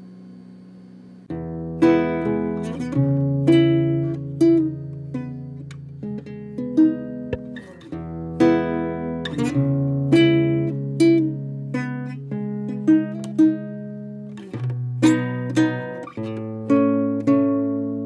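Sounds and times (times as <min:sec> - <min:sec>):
acoustic guitar playing: 0:01.3 - 0:18.0.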